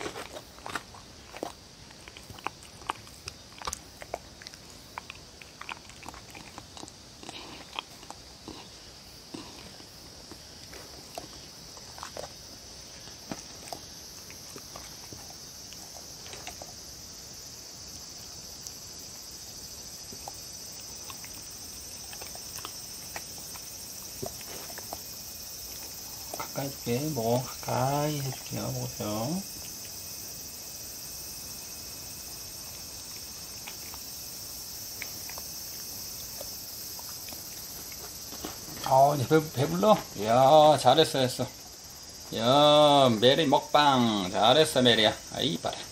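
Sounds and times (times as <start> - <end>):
dog licking and chewing: 0.0 - 17.0, 18.5 - 30.4, 32.2 - 40.2
steady high hiss: 0.0 - 45.9.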